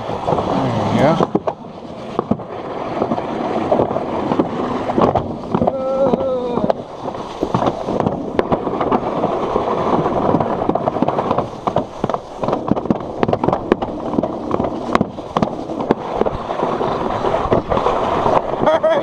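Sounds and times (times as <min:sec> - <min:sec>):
sled rattling rumble on track: 0:00.0 - 0:19.0
sharp clicks and knocks: 0:00.2 - 0:16.4.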